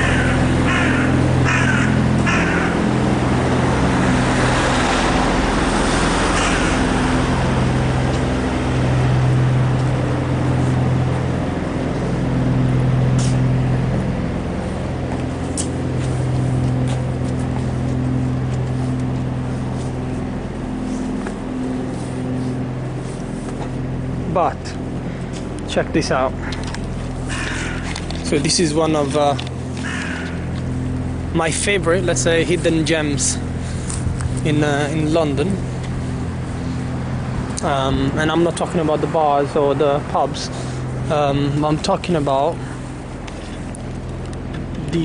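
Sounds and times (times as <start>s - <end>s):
diesel lorry engine idling: 0.0s - 45.0s.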